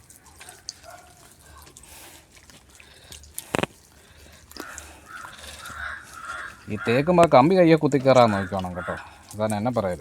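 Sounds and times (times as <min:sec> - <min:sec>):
hands squelching wet paste: 0:00.0 - 0:10.0.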